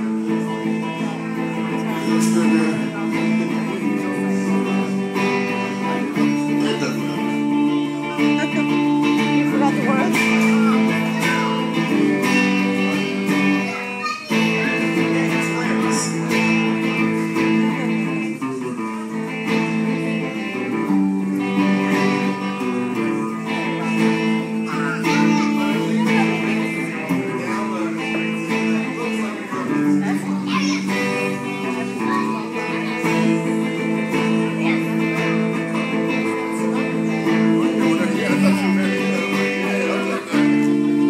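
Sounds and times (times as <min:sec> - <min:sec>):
solo guitar chords: 0:00.0 - 0:41.0.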